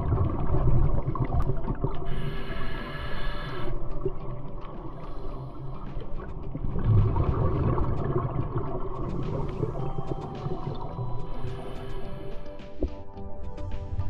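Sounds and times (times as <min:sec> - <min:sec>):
underwater bubbling: 0:00.0 - 0:13.1.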